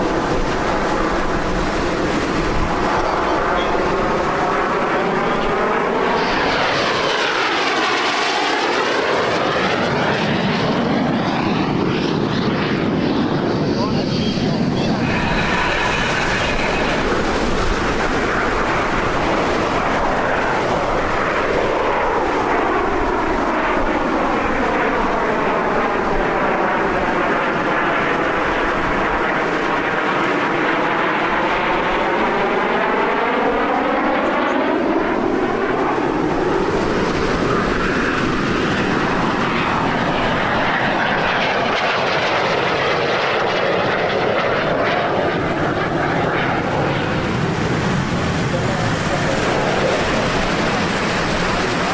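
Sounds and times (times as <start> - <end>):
jet aircraft flying past: 0.0 - 51.9.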